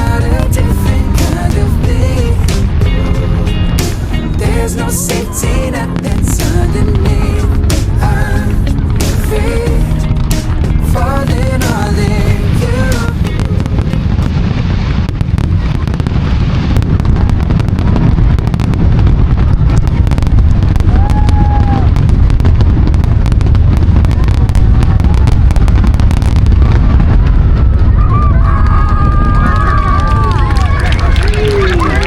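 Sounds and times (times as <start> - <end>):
fireworks bursting: 0.0 - 32.0
fireworks crackling: 0.0 - 32.0.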